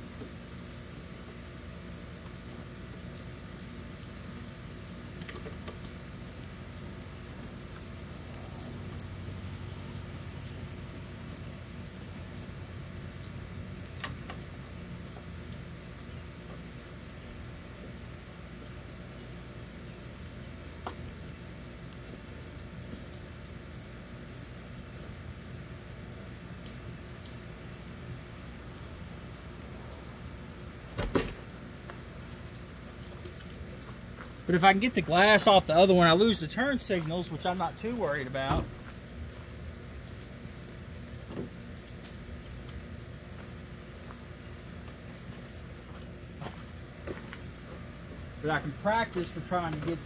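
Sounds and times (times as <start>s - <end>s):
faint drips: 0.0s - 50.0s
light rain pattering: 0.0s - 50.0s.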